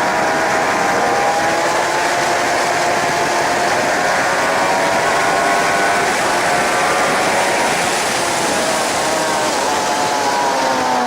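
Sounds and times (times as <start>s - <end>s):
motorcycle engine at speed: 0.0s - 11.0s
wind rushing: 0.0s - 11.0s.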